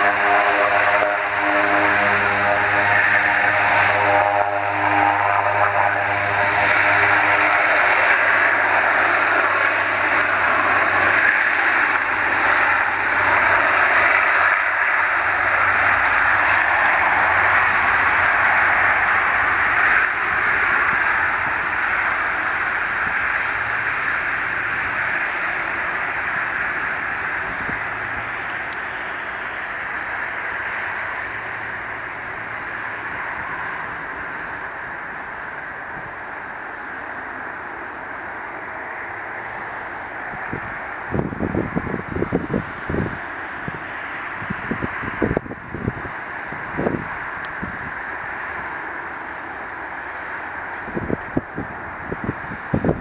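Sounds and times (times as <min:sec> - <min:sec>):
low hum: 0:00.0 - 0:52.0
turboprop engines at takeoff: 0:00.0 - 0:53.0.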